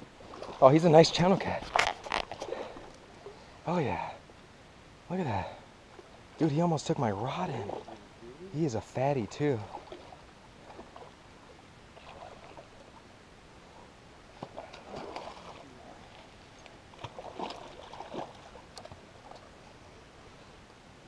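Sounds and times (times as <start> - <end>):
water splashing and sloshing: 0.0 - 3.6, 5.7 - 19.6.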